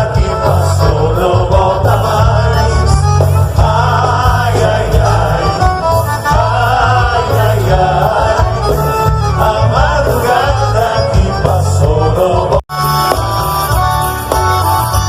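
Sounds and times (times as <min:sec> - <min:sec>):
live band dance music: 0:00.0 - 0:15.0.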